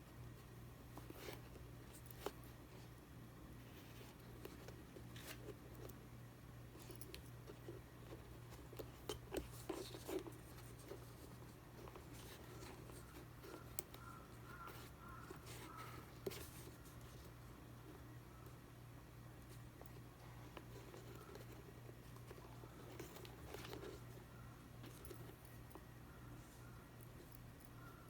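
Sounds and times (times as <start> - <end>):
small ticks and rustles of hands: 0.0 - 28.0.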